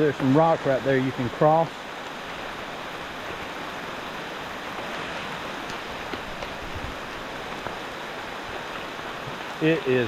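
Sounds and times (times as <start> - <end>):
creek water rushing: 0.0 - 10.0
heavy rain: 0.0 - 10.0.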